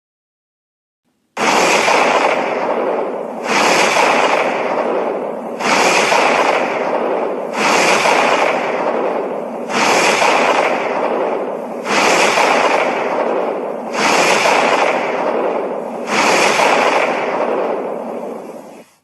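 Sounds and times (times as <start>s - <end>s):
harsh monster blasts: 1.4s - 18.8s.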